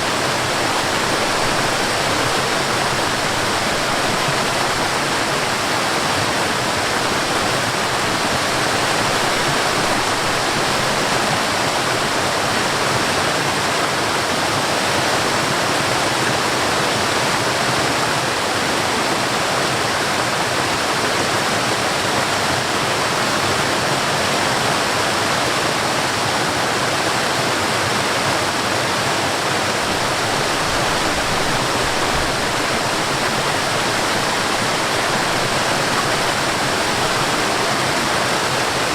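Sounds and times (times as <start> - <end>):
water rushing over waterfall: 0.0 - 38.9.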